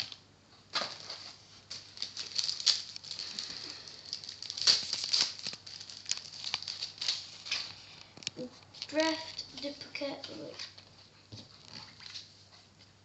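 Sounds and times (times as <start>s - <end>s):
wrapper crinkling: 0.0s - 10.9s.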